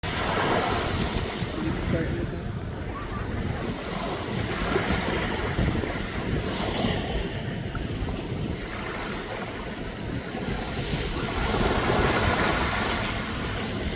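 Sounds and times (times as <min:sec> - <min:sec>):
sea waves rushing: 0:00.0 - 0:13.9
wind buffeting microphone: 0:00.0 - 0:13.9.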